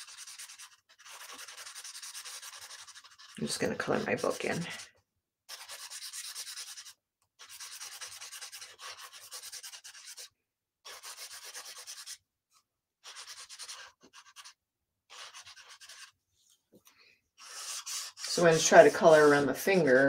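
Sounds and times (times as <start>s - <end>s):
marker scribbling on paper: 0.0s - 4.9s, 5.5s - 12.2s, 13.0s - 16.2s, 17.4s - 20.0s.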